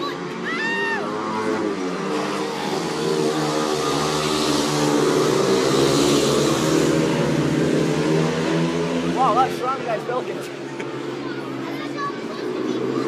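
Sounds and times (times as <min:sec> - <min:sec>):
motorcycles racing at high revs: 0:00.0 - 0:13.0.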